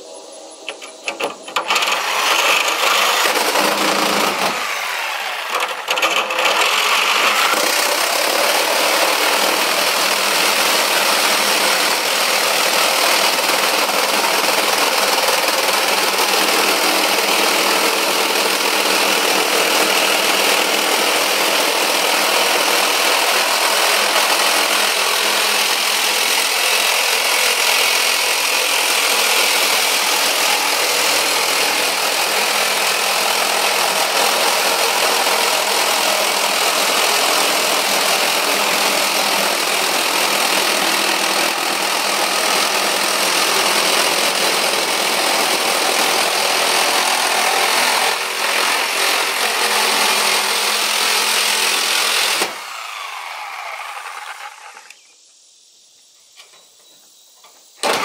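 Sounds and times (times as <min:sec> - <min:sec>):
reciprocating saw cutting steel sheet: 0:00.6 - 0:55.0.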